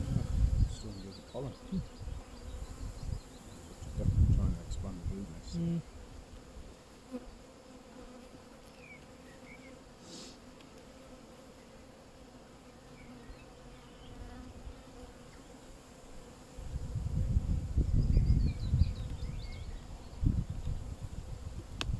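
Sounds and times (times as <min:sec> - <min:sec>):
bees buzzing: 0:00.0 - 0:21.8.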